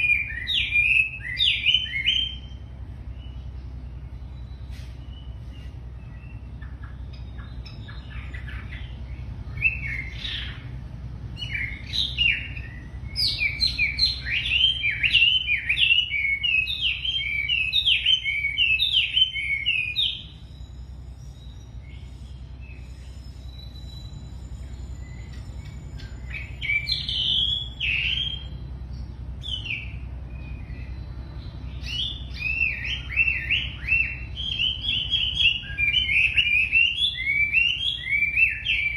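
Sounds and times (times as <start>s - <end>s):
songbird chirping: 0.0s - 38.9s
steady low hum: 0.0s - 38.9s.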